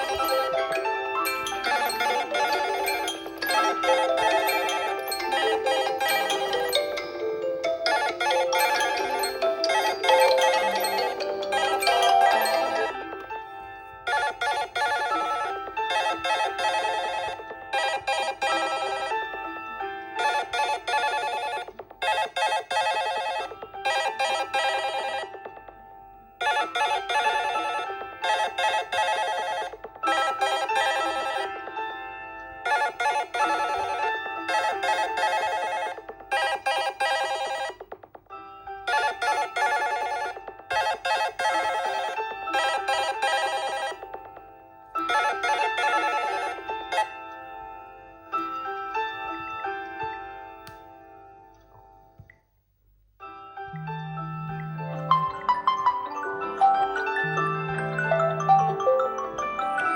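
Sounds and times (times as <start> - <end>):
phone alarm tone ringing: 0.0 - 25.7, 26.4 - 31.9, 32.6 - 38.0, 38.8 - 44.3, 45.0 - 47.4, 53.7 - 59.9.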